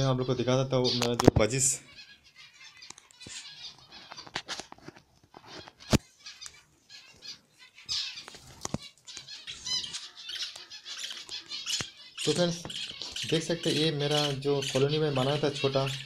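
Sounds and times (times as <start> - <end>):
budgerigars chirping and chattering: 0.0 - 4.6, 5.4 - 16.0.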